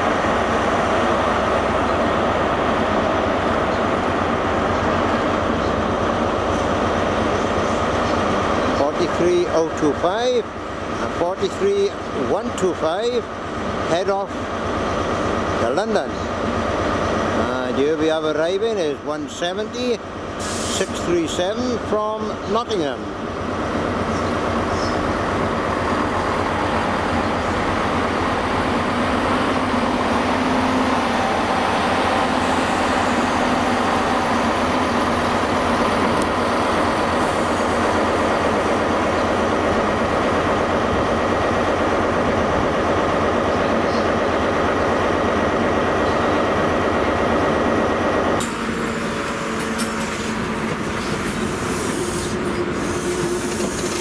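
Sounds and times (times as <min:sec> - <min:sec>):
diesel train engines running: 0:00.0 - 0:54.0
train coaches rolling by: 0:00.0 - 0:54.0
wheel and rail noise: 0:00.0 - 0:54.0.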